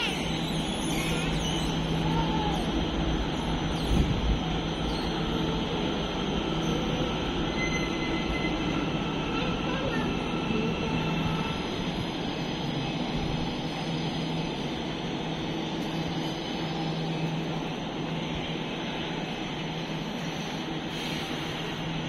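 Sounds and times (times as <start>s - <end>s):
metro train rumbling: 0.0s - 22.0s.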